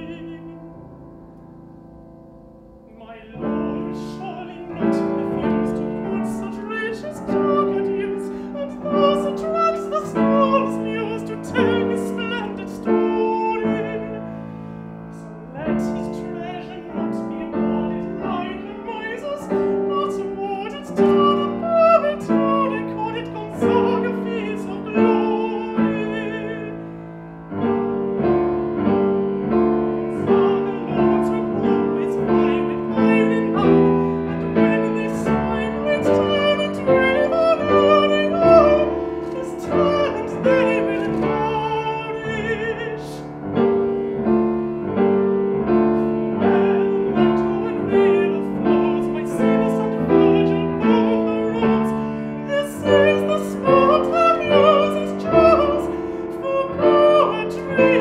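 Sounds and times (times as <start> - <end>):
person singing: 0.0 - 1.1, 2.8 - 27.0, 27.6 - 45.0, 45.6 - 58.0
piano chords: 0.0 - 58.0.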